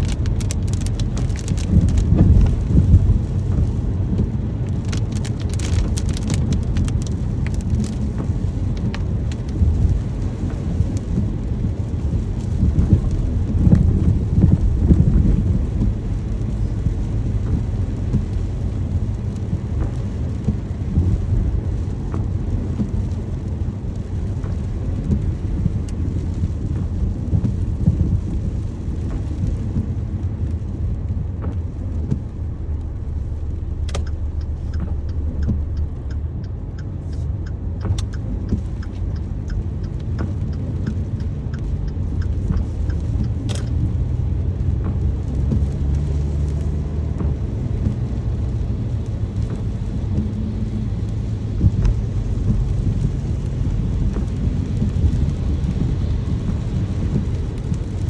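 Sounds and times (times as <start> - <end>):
low rumble: 0.0 - 58.0
steady rain: 0.0 - 58.0.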